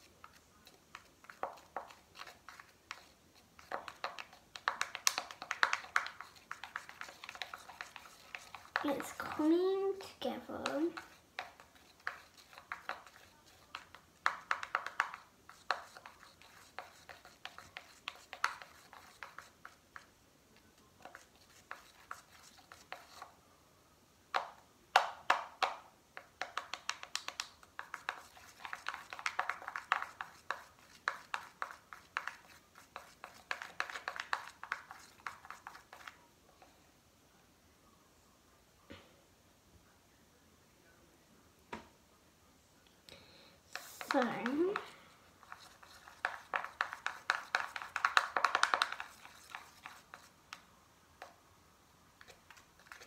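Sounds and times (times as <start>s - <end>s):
utensil stirring slime in cup: 0.0s - 23.4s, 24.3s - 36.7s, 43.7s - 51.4s, 52.2s - 53.0s.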